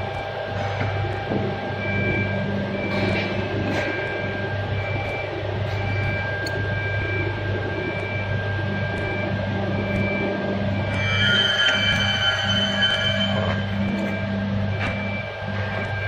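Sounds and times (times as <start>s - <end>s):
machinery hum and whine: 0.0s - 16.0s.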